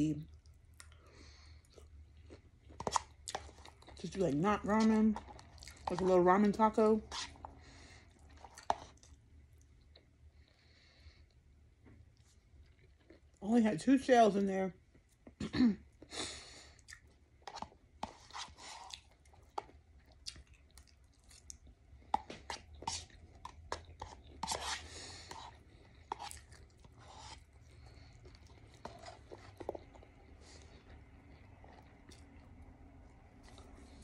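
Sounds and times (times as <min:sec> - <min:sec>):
person chewing noodles: 0:00.3 - 0:04.1, 0:05.1 - 0:06.1, 0:07.0 - 0:11.4, 0:12.0 - 0:13.4, 0:15.9 - 0:34.0.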